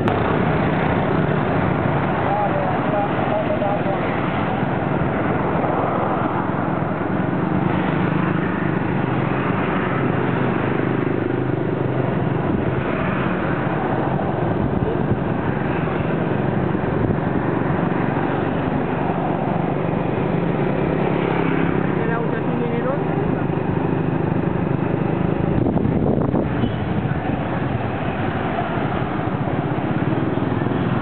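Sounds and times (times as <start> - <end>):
engine and road noise: 0.0 - 31.0
passing traffic: 0.0 - 31.0.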